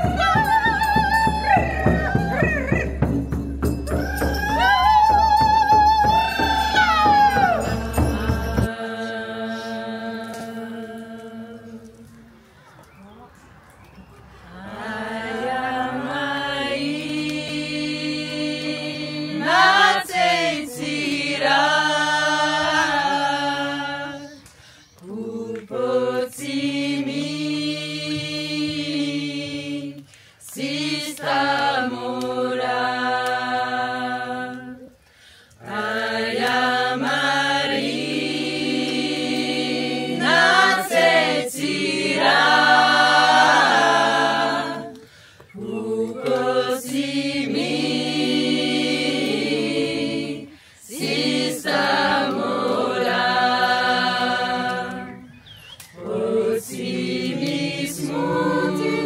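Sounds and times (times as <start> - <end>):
group singing unaccompanied: 0.0 - 12.4, 14.5 - 24.4, 25.0 - 35.0, 35.6 - 59.0.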